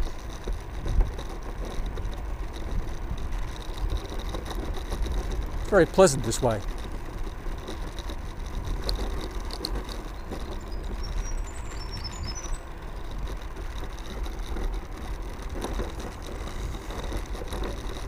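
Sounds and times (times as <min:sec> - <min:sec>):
wheels rumbling on road: 0:00.0 - 0:18.0
wind buffeting microphone: 0:00.0 - 0:18.0.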